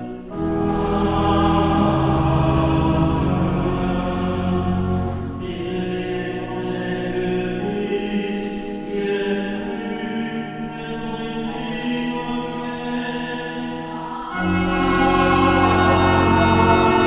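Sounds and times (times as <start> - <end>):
choir chanting: 0.0 - 17.0
organ chords: 0.0 - 17.0.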